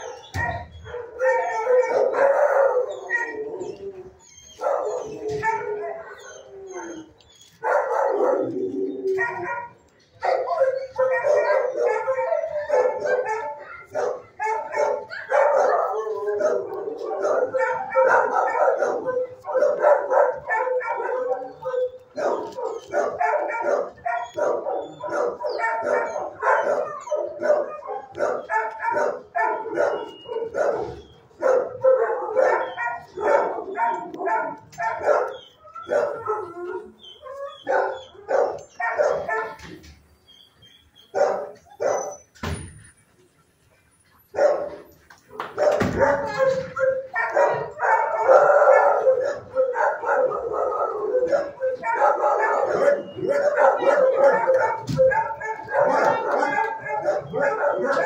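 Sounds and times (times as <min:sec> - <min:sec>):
dogs barking: 0:00.0 - 0:42.4, 0:44.2 - 0:58.0.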